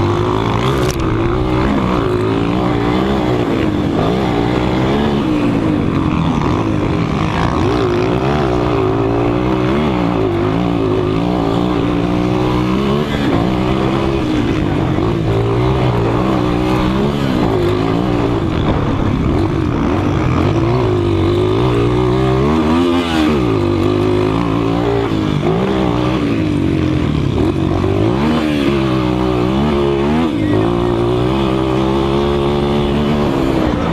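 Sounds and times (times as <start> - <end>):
motocross bike engines racing: 0.0 - 33.9.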